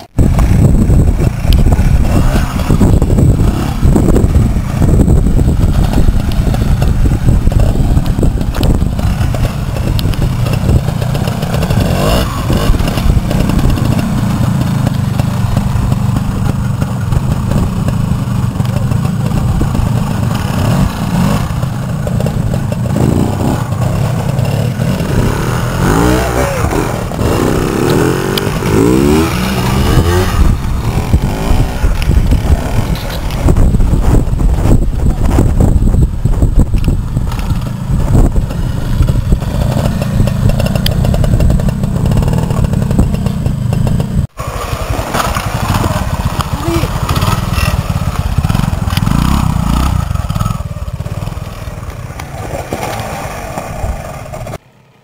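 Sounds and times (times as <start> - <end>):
motorcycle engine revving: 0.0 - 54.6.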